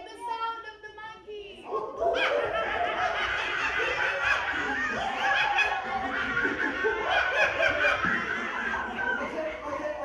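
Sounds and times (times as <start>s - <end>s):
children laughing and chattering: 1.7s - 10.0s.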